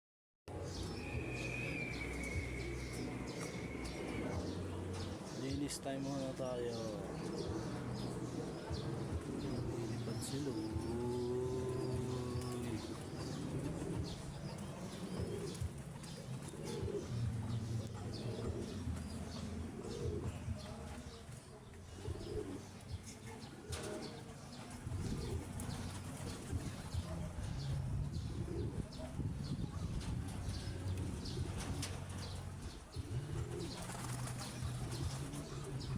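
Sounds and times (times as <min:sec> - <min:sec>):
pigeons cooing: 0:00.5 - 0:35.9.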